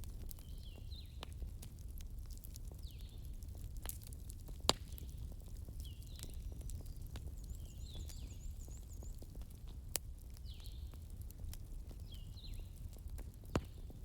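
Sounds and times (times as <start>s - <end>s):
sharp pops from fire: 0.0s - 14.0s
wood fire crackling: 0.0s - 14.0s.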